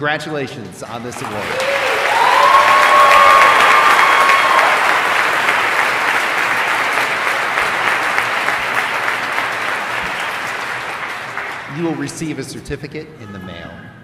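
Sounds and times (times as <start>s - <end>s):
audience applauding: 0.9s - 12.6s.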